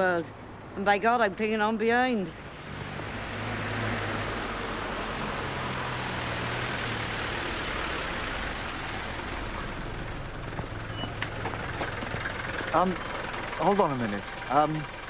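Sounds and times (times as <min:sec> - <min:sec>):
diesel engine hum: 0:00.0 - 0:15.0.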